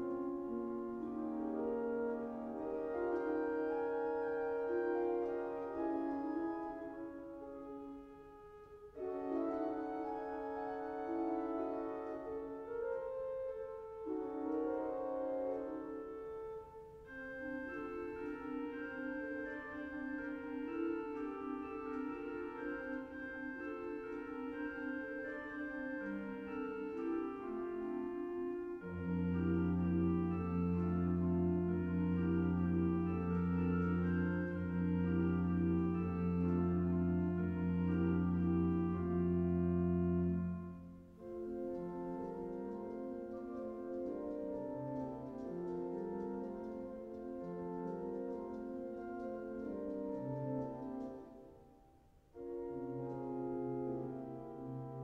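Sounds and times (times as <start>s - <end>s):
pipe organ chords: 0.0s - 51.5s, 52.3s - 55.0s.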